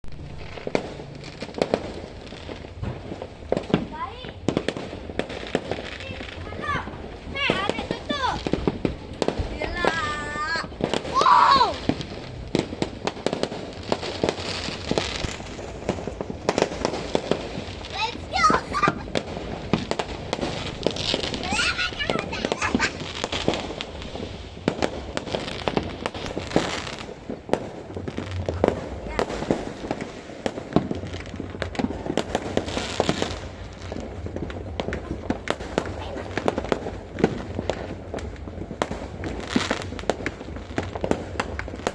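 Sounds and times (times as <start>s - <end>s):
fireworks bangs and pops: 0.0s - 41.9s
hissing crackle of fireworks: 0.0s - 41.9s.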